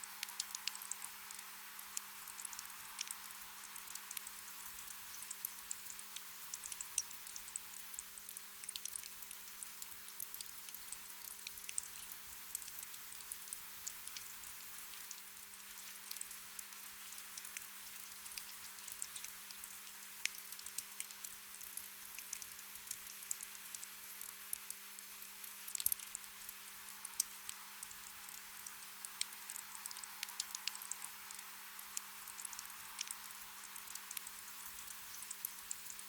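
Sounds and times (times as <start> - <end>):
gentle rain patter: 0.0 - 36.0
sharp drip ticks: 0.0 - 36.0.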